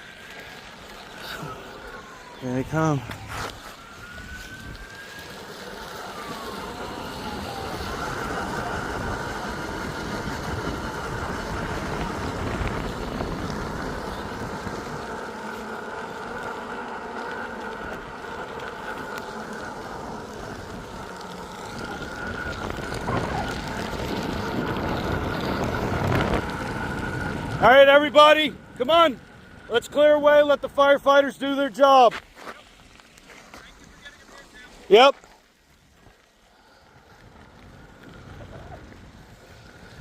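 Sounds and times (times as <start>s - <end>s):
fire truck engines running: 0.0s - 32.1s.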